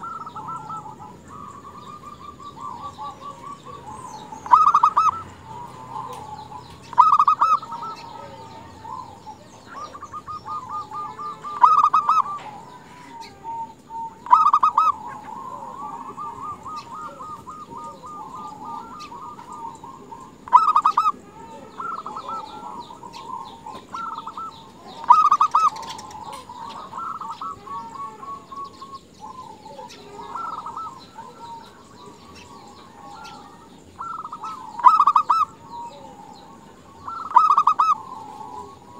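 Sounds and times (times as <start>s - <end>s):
dove trilled cooing: 0.0s - 38.9s.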